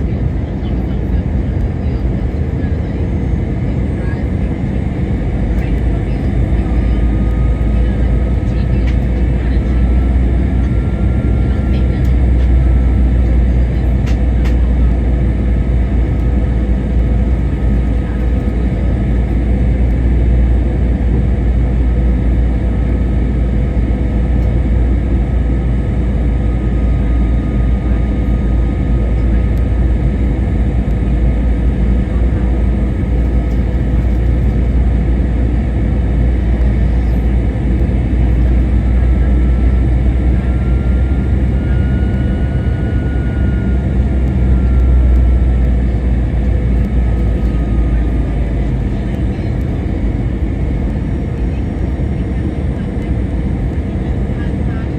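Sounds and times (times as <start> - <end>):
airliner cabin rumble: 0.0 - 54.9
faint engine tones: 0.0 - 54.9.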